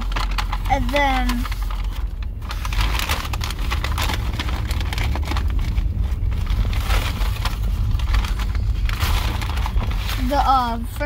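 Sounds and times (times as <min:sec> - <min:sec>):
cardboard boxes and paper crinkling: 0:00.0 - 0:11.0
low rumble inside car: 0:00.0 - 0:11.0.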